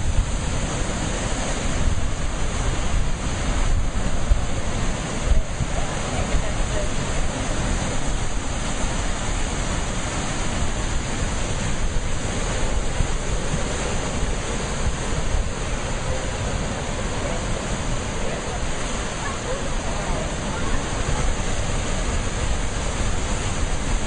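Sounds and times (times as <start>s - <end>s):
sea waves rushing: 0.0s - 24.0s.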